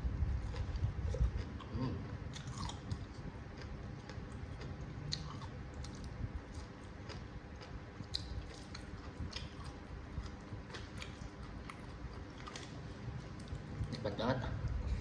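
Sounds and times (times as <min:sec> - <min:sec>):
person chewing food: 0:00.4 - 0:14.0.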